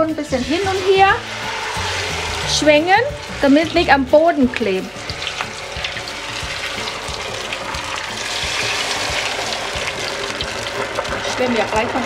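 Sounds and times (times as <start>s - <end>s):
chicken deep-frying in oil: 0.2s - 12.0s.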